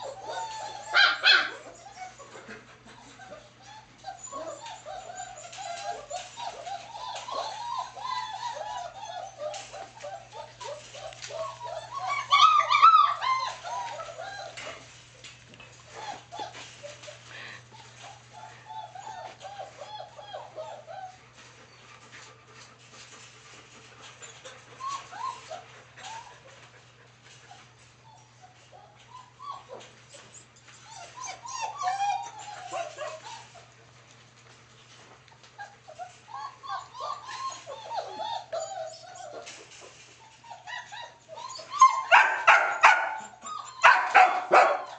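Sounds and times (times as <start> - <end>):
puppies whimpering: 0.0 - 44.9.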